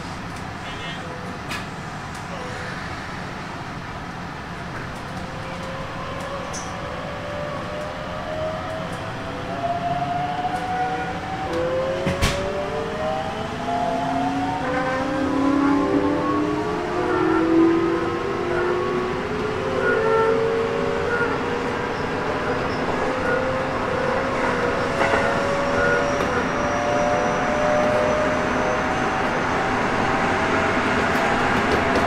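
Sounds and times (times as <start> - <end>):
electric train inverter whining: 5.1 - 32.0.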